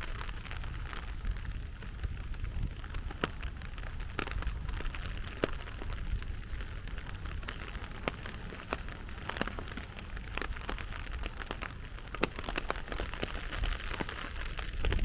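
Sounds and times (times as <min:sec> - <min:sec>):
heavy rain falling: 0:00.0 - 0:15.0
large raindrops tapping: 0:00.0 - 0:15.0.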